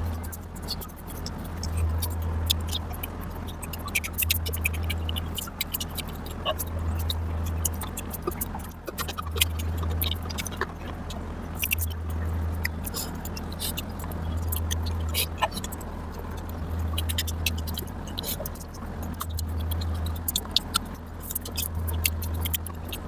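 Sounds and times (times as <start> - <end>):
chewing with mouth clicks: 0.0 - 23.0.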